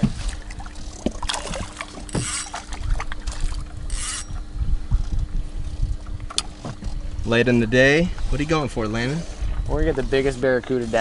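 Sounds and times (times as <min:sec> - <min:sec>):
faint steady hum: 0:00.0 - 0:11.0
water washing against boat: 0:00.0 - 0:11.0
wind rumbling on microphone: 0:00.0 - 0:11.0.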